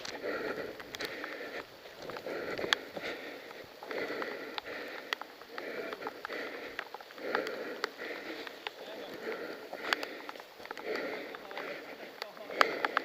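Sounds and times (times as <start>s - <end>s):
heavy rhythmic breathing: 0.0s - 13.0s.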